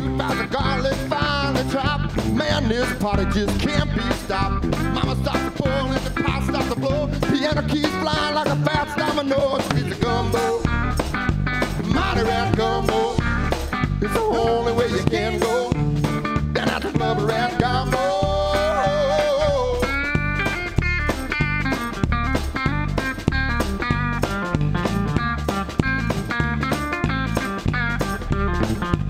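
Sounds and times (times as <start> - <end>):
live blues rock band: 0.0 - 29.0.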